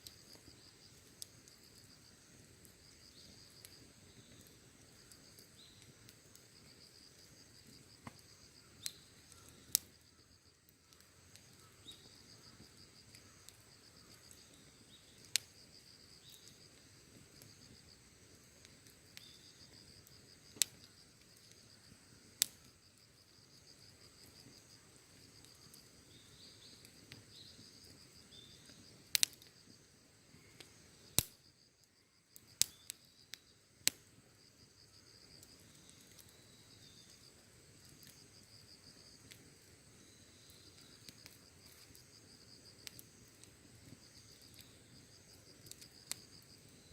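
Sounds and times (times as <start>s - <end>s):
campfire crackling and popping: 0.0s - 46.9s
crickets chirring: 0.0s - 46.9s
low hiss: 0.0s - 46.9s.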